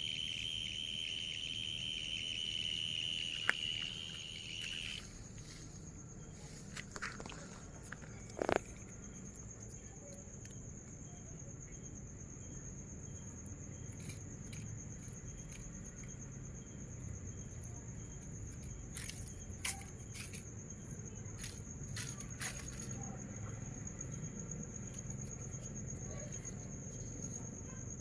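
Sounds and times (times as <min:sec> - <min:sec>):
high-pitched insect trill: 0:00.0 - 0:28.0.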